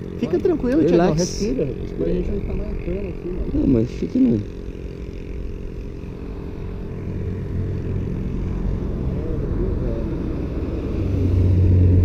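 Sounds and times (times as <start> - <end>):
car engine humming in cabin: 0.0 - 12.0.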